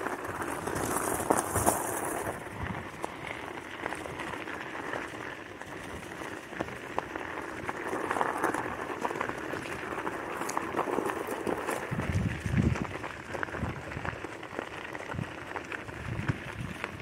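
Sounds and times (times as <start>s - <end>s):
scooter tyres rolling on gravel: 0.0s - 17.0s.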